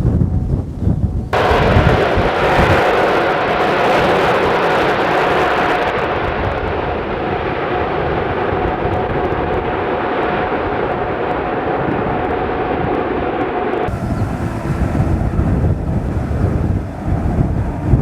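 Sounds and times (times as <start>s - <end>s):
jet engines roaring with whine: 1.3s - 18.0s.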